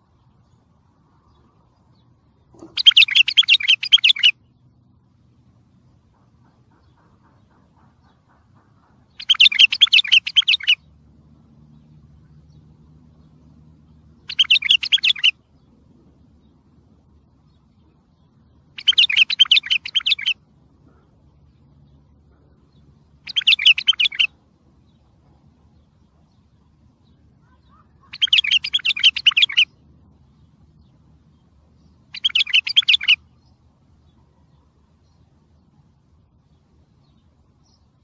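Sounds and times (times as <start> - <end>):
bulbul song: 0.0 - 4.7, 5.6 - 11.1, 12.0 - 38.0.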